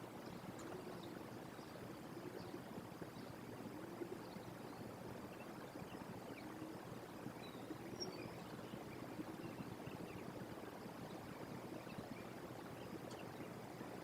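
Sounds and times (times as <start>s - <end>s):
outdoor background hiss: 0.0s - 14.0s
faint bird chirps: 0.1s - 14.0s.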